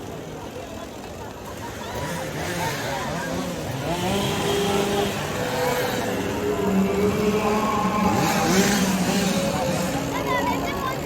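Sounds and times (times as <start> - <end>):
chainsaw engines revving: 0.0 - 11.0.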